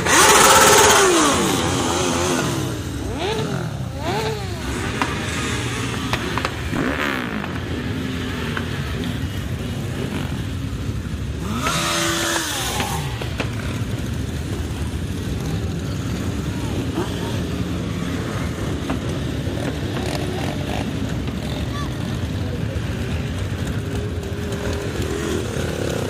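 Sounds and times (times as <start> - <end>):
motorcycles riding past: 0.0 - 26.0.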